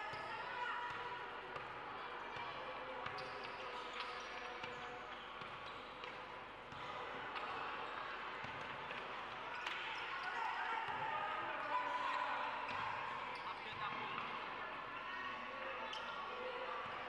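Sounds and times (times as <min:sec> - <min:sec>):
large hall background noise: 0:00.0 - 0:17.0.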